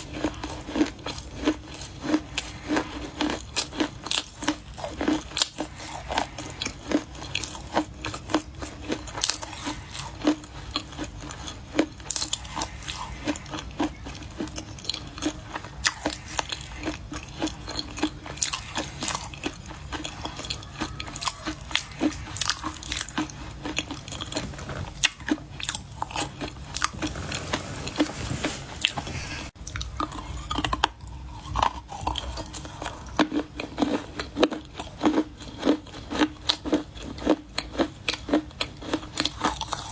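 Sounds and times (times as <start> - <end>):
clay crunching while chewed: 0.0 - 28.2, 28.8 - 39.9.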